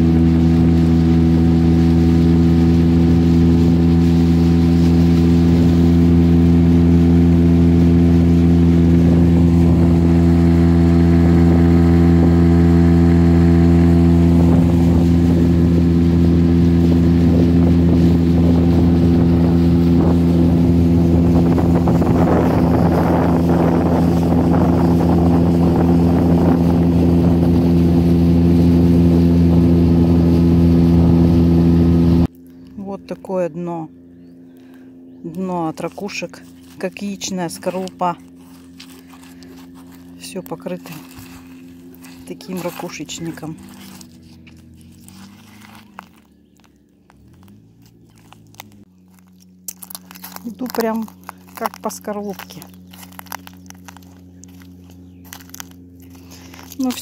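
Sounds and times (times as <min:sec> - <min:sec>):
water rushing along hull: 0:00.0 - 0:33.7, 0:35.3 - 0:57.0
outboard motor running: 0:00.0 - 0:57.0.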